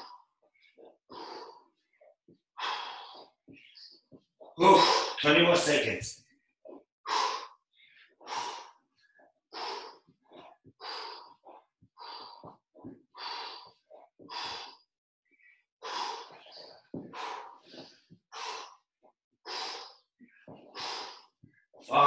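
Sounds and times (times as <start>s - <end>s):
man breathing hard: 0.0s - 2.0s, 2.6s - 5.2s, 7.1s - 18.8s, 19.5s - 21.5s.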